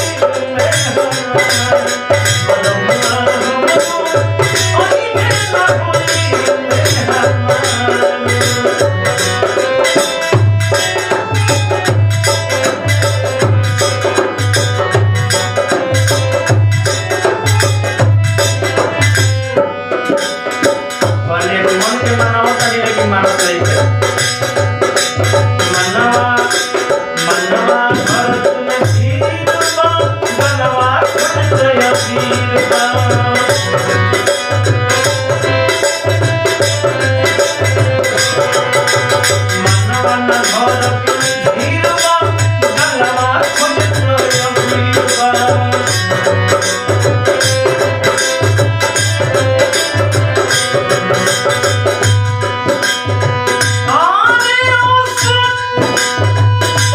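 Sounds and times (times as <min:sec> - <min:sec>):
fast hand-drum rhythm: 0:00.0 - 0:56.9
folk melody instrument: 0:00.0 - 0:56.9.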